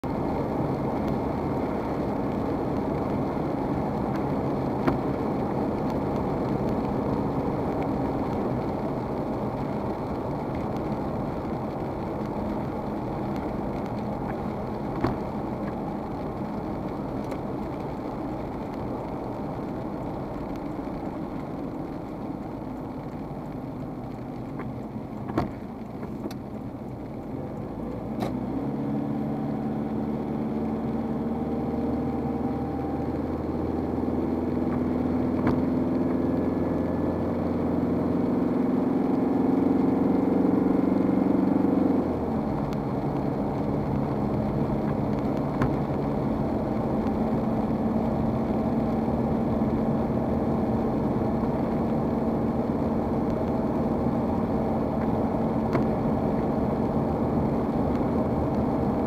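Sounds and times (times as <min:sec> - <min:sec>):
engine and road noise in car: 0:00.0 - 0:59.0
tyres hissing on wet road: 0:00.1 - 0:59.0.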